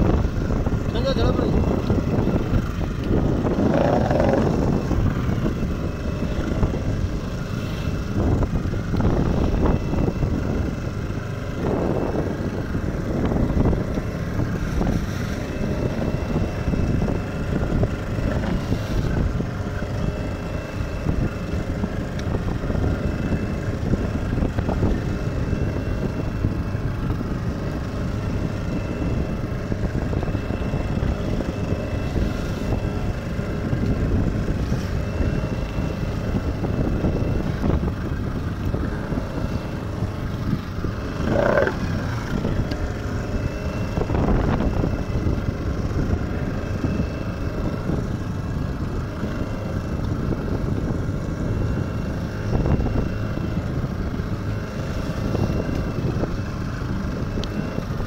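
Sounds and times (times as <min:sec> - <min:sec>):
waves splashing against hull: 0:00.0 - 0:53.0
wind buffeting microphone: 0:00.0 - 0:58.0.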